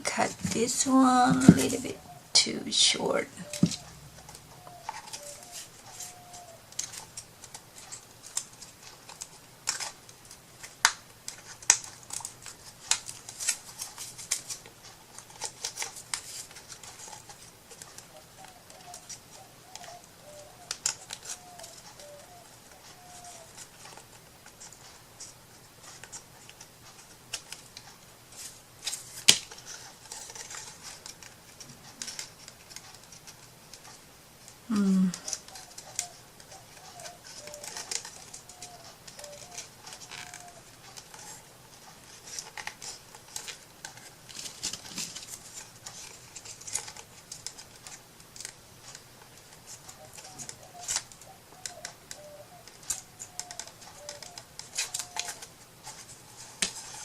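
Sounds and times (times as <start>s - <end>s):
paper handling: 0.1s - 57.0s
scissors snipping paper: 3.4s - 34.0s, 34.7s - 57.0s.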